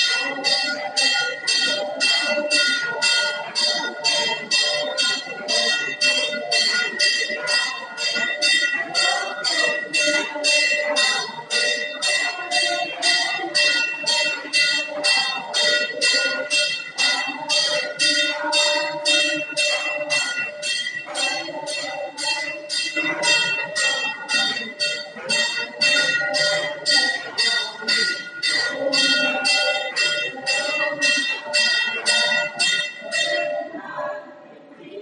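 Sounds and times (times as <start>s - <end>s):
temple bell ringing: 0.0s - 34.2s
group singing a hymn: 0.0s - 35.0s.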